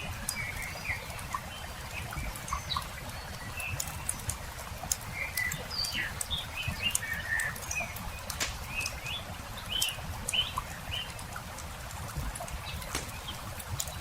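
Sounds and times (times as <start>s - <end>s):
campfire crackling and popping: 0.0s - 14.0s
small birds chirping: 0.0s - 14.0s.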